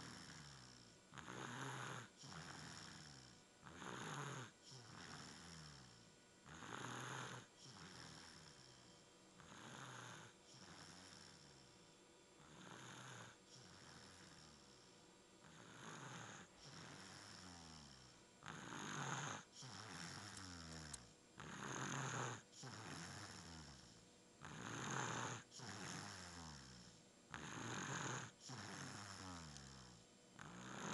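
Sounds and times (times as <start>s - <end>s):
congested snoring: 0.0s - 30.9s.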